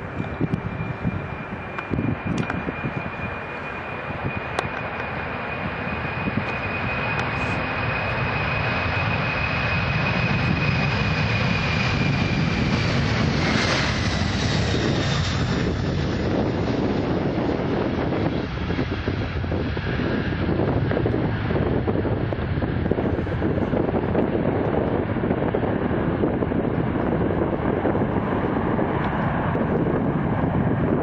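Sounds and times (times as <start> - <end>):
jet engines at take-off power: 0.0 - 31.0.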